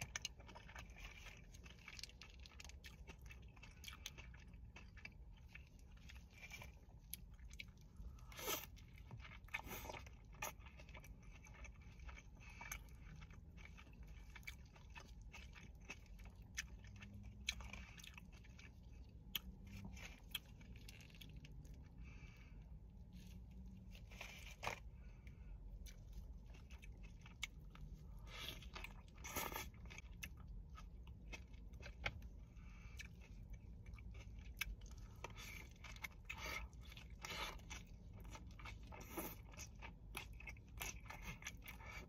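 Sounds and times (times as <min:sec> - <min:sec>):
wet chewing clicks and smacks: 0:00.0 - 0:22.0, 0:25.7 - 0:42.0.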